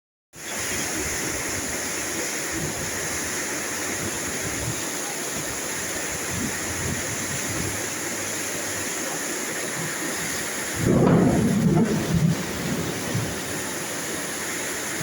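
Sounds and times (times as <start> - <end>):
rain hiss: 0.4 - 15.0.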